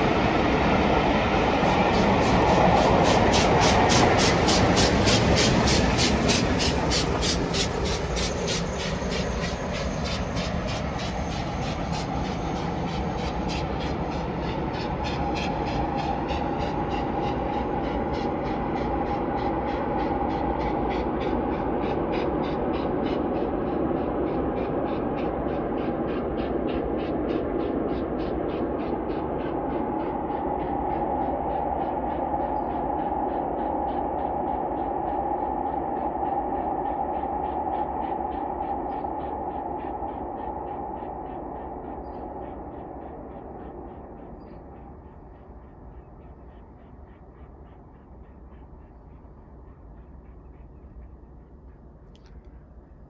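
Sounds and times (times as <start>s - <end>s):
steam locomotives chuffing: 0.0s - 53.0s
train coaches rumbling past: 0.0s - 53.0s.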